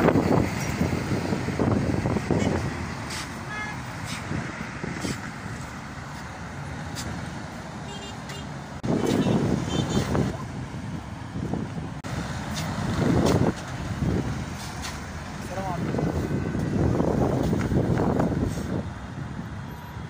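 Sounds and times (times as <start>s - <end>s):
road traffic on a bridge: 0.0s - 20.0s.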